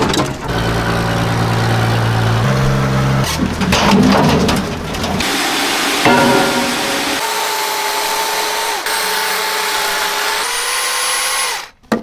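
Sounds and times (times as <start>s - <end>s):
rough noisy machine sound: 0.0s - 11.7s
machine motor running: 0.1s - 11.7s.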